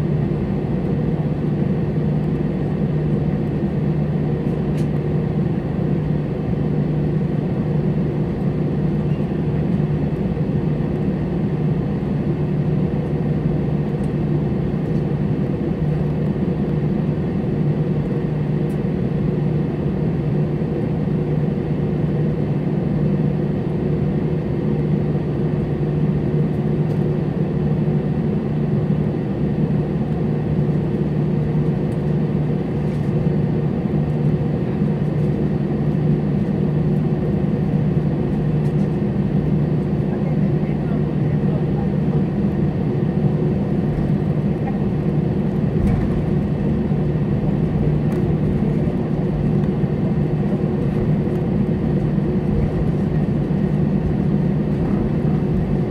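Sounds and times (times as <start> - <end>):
airliner cabin engine drone: 0.0 - 55.9.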